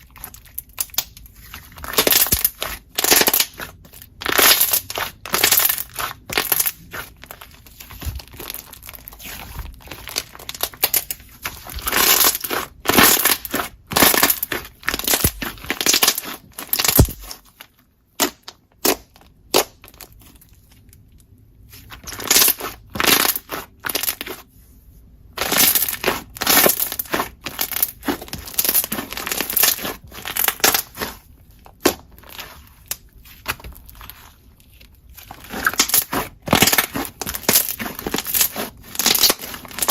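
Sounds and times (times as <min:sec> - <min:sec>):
slime crackling and popping: 0:00.0 - 0:20.3, 0:21.7 - 0:24.4, 0:25.4 - 0:39.9.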